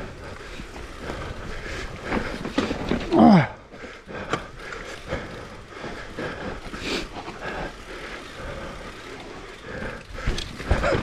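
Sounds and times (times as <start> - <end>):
bike rattling and clicking: 0.0 - 11.0
bike tyres on dirt: 0.0 - 11.0.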